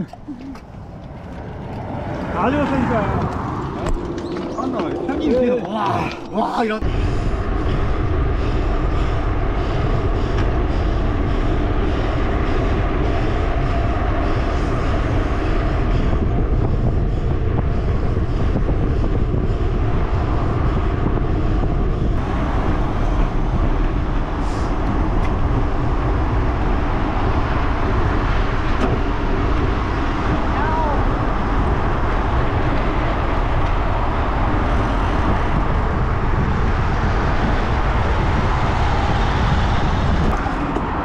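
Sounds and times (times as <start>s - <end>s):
tyre and road noise: 0.0s - 41.0s
wind noise on microphone: 6.0s - 41.0s.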